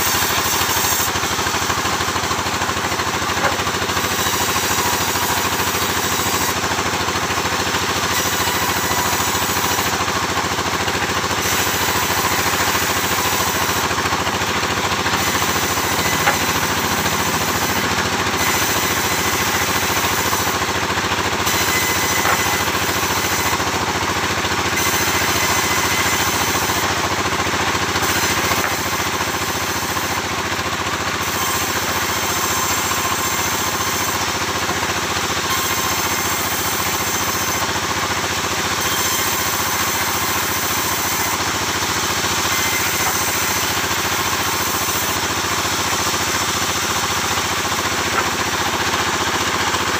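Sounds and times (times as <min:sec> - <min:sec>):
sawmill machinery drone: 0:00.0 - 0:49.9.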